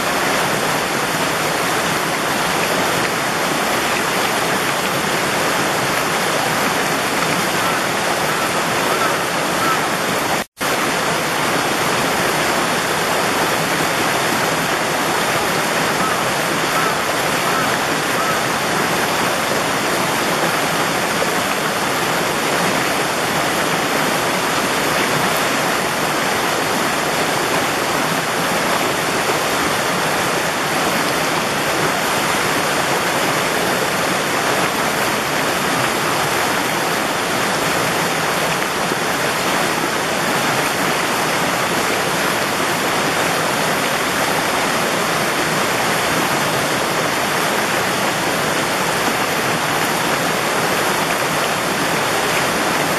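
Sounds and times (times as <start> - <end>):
stream water flowing: 0.0 - 52.9.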